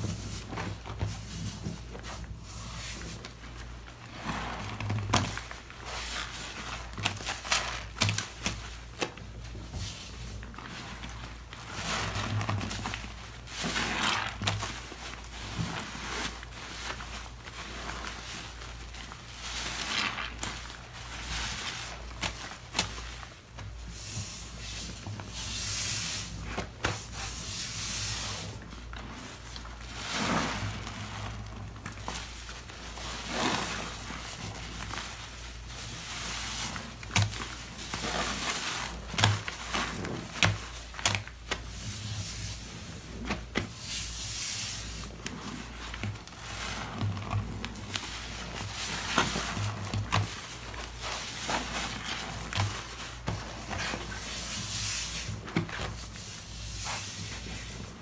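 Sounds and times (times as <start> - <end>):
wet sponge squelching: 0.0 - 58.0.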